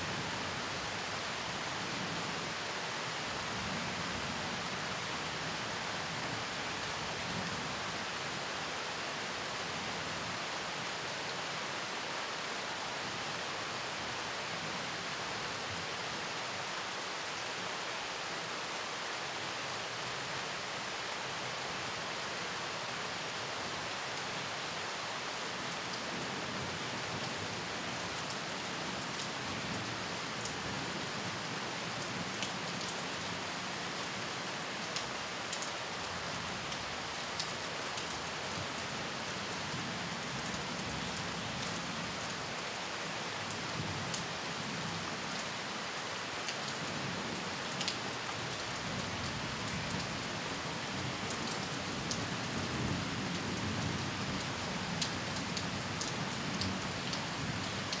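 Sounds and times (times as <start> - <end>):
rain falling on foliage: 0.0 - 58.0.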